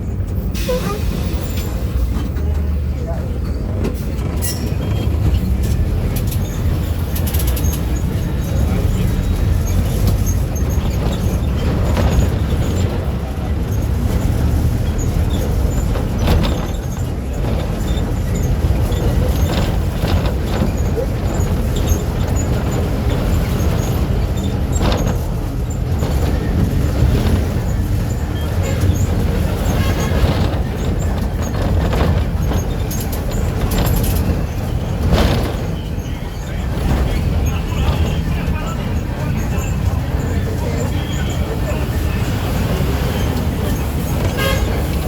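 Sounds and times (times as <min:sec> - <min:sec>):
bus diesel engine rumble: 0:00.0 - 0:45.0
clatters and knocks from bus: 0:00.0 - 0:45.0.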